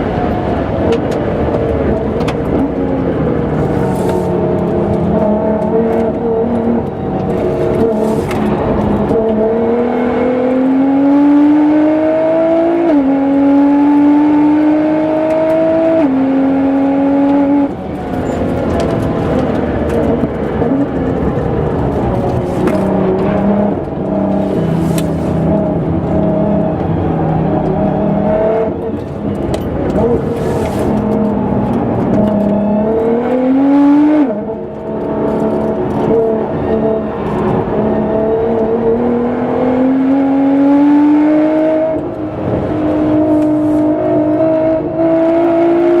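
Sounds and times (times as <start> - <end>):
car engine under hard acceleration: 0.0 - 46.0.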